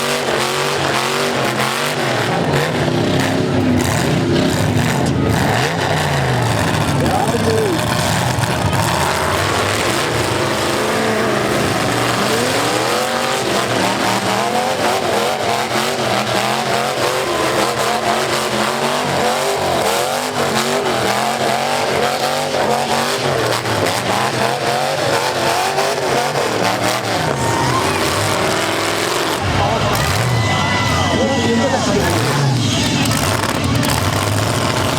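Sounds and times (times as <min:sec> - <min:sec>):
car engines revving: 0:00.0 - 0:34.9
tires spinning: 0:00.0 - 0:34.9.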